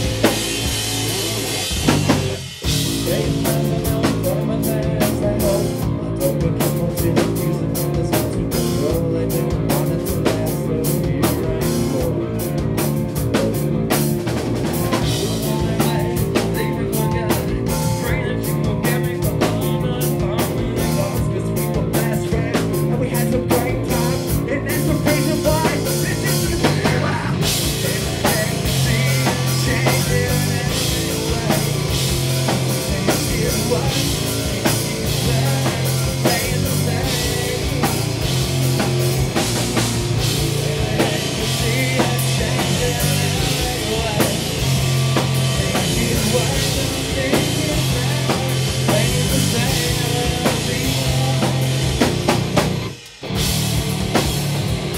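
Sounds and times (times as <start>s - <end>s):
drum kit: 0.0s - 54.9s
live rock band playing: 0.0s - 54.9s.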